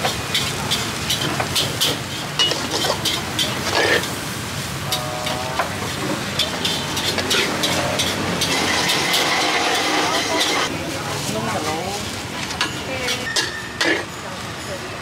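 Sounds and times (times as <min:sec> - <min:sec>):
metal spatula scraping wok: 0:00.0 - 0:15.0
street noise: 0:00.0 - 0:15.0.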